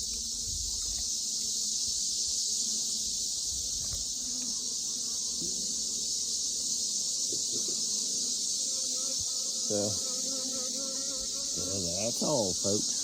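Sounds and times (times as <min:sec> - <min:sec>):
chorus of insects: 0:00.0 - 0:13.0.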